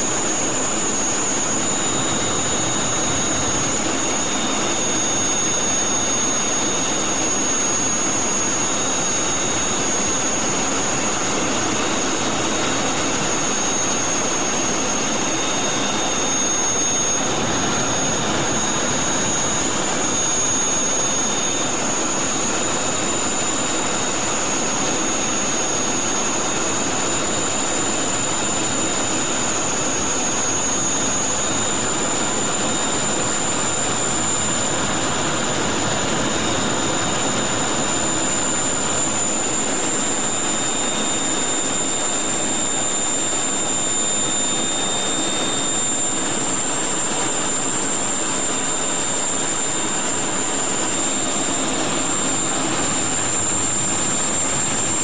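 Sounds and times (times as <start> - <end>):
jet engine roar in cockpit: 0.0 - 55.0
thin high whine: 0.0 - 55.0.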